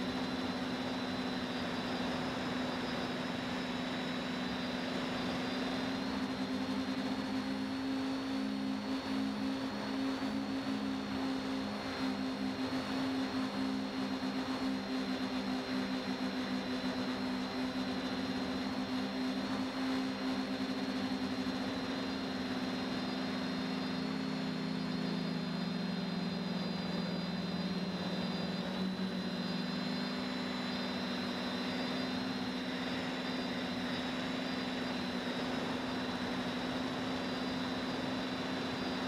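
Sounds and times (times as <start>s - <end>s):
drone propellers humming: 0.0s - 39.0s
high motor whine: 0.0s - 39.0s.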